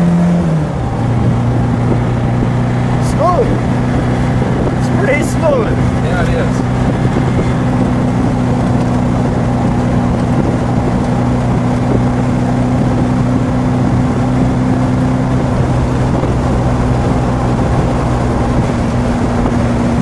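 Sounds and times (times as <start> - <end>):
car engine cruising: 0.0 - 20.0
road noise: 0.0 - 20.0
wind noise: 0.0 - 20.0.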